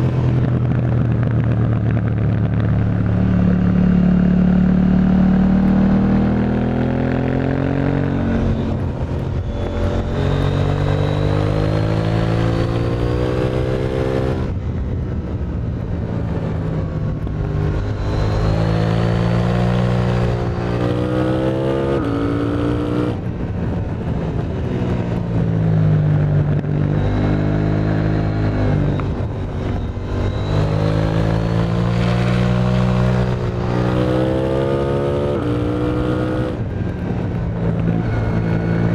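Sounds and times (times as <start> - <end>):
motorcycle engine revving: 0.0 - 14.8, 15.9 - 38.9.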